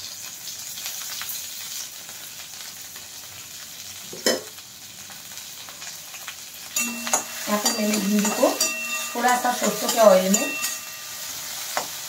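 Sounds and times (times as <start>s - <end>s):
okra sizzling in oil: 0.0s - 12.0s.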